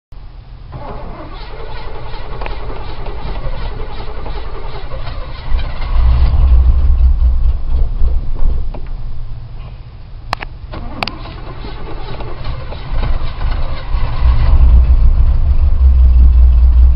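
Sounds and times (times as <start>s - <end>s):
car engine running with deep rumble: 0.2s - 16.9s
car engine cranking: 0.6s - 9.6s, 10.3s - 16.9s.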